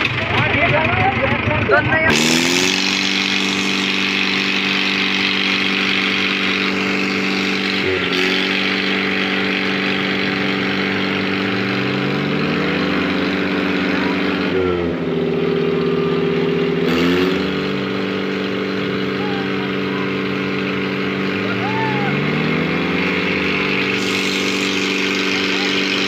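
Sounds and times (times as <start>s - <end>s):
tractor engines running hard: 0.0s - 26.0s.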